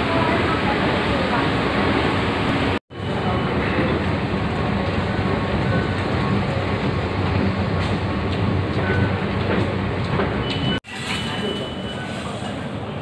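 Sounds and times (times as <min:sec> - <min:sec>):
metro train rumble: 0:00.0 - 0:13.0.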